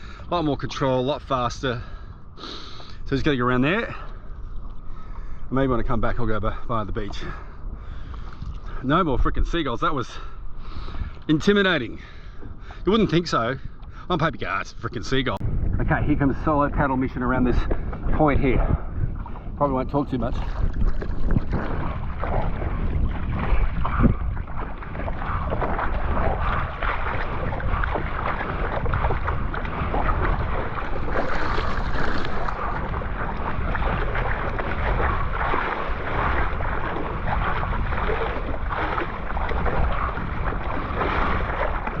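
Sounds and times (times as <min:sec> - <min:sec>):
water splashing and sloshing: 0:00.0 - 0:42.0
wind buffeting microphone: 0:00.0 - 0:42.0.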